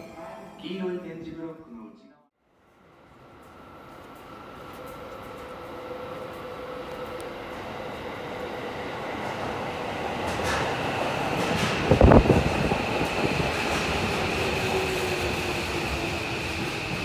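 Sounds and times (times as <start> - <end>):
subway train rumble: 2.6 - 17.0.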